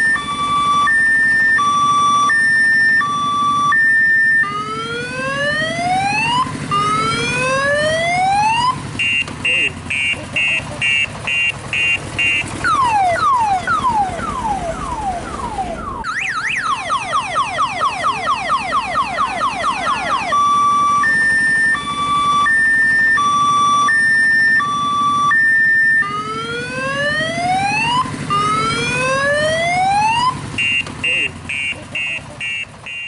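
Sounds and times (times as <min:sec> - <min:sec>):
electronic siren: 0:00.0 - 0:33.0.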